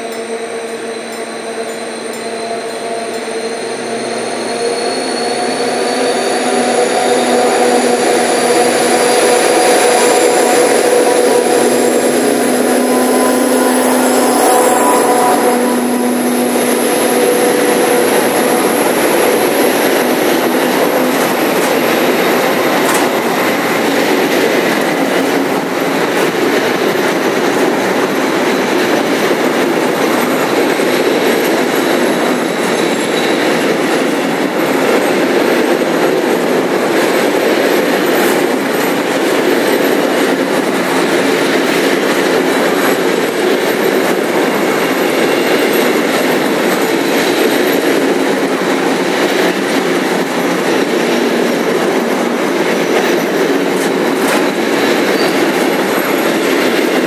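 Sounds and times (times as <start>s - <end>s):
diesel locomotive engine drone: 0.0s - 57.0s
train wagons rolling on rails: 0.0s - 57.0s.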